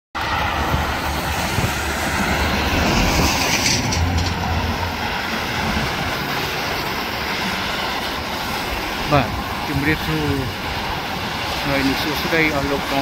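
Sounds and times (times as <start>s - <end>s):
freeway traffic on wet pavement: 0.2s - 13.0s.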